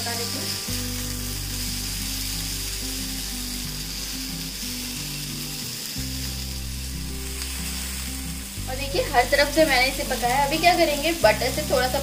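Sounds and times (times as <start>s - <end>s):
background music: 0.0s - 12.0s
meat sizzling in oil: 0.0s - 12.0s.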